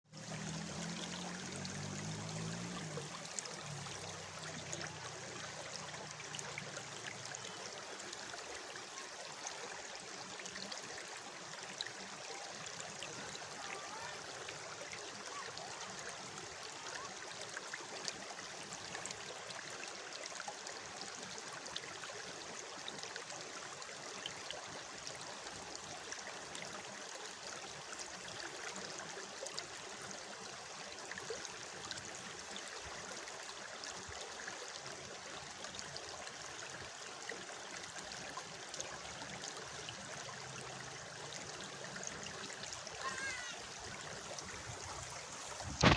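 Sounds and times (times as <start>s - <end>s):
water cascading with splashes: 0.1s - 45.9s.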